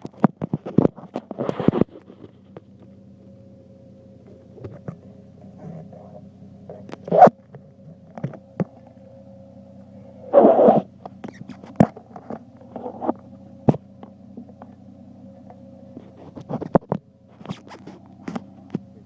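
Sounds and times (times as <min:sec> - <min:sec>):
car exhaust idling drone: 0:00.0 - 0:19.0.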